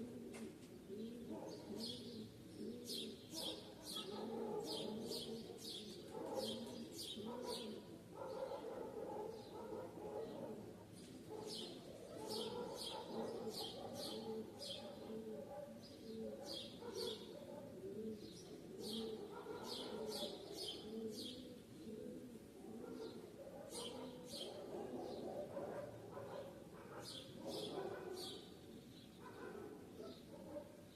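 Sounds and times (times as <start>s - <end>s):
bird cooing: 0.0s - 10.7s, 11.5s - 26.5s.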